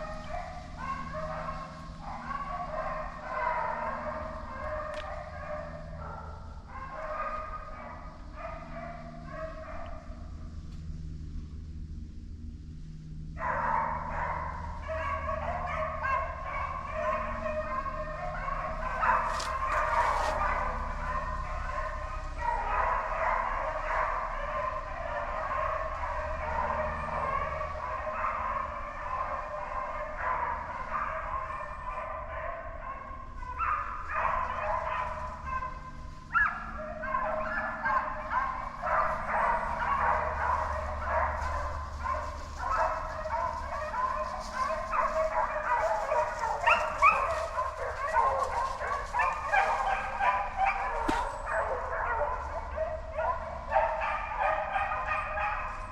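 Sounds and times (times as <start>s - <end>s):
hounds baying: 0.0s - 10.6s, 13.2s - 55.9s.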